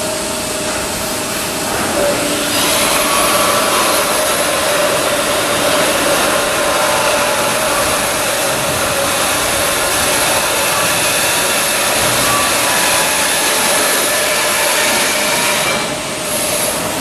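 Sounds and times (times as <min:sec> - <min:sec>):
rushing hiss of machinery: 0:00.0 - 0:17.0.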